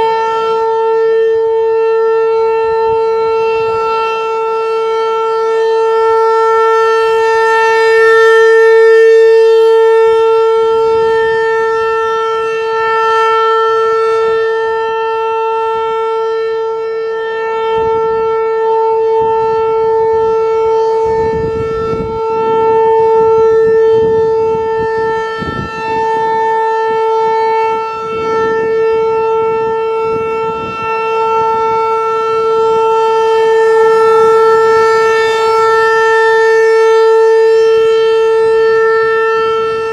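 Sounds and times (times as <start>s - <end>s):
outdoor warning siren: 0.0s - 39.9s.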